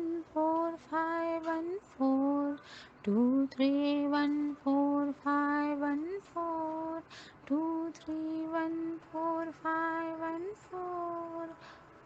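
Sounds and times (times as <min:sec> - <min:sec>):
woman chanting digits: 0:00.0 - 0:11.6.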